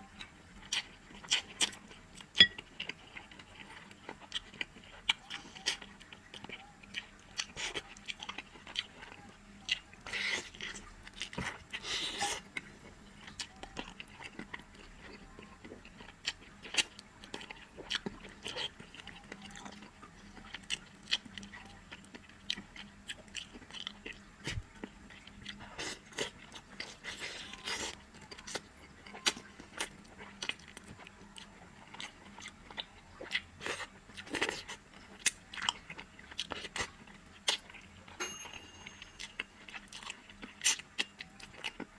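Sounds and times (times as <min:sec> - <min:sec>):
close chewing and crunching: 0:00.0 - 0:41.9.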